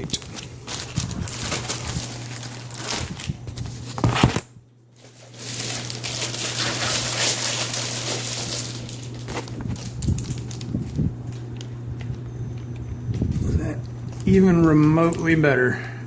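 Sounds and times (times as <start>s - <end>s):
plastic film crinkling: 0.0s - 15.7s
steady low hum: 0.0s - 16.0s.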